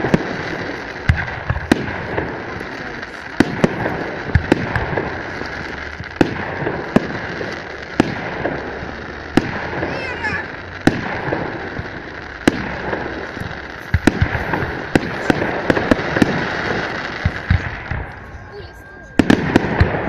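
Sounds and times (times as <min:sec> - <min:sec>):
background noise: 0:00.0 - 0:20.0
fireworks bangs: 0:00.0 - 0:20.0.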